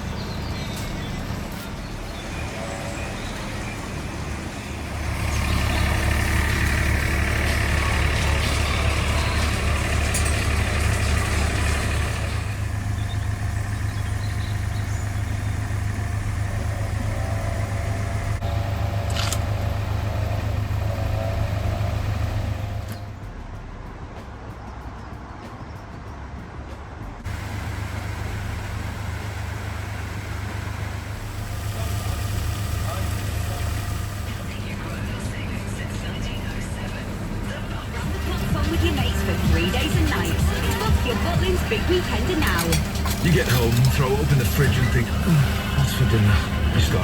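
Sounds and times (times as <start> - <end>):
heavy diesel engine running: 0.0 - 24.2, 27.0 - 47.0.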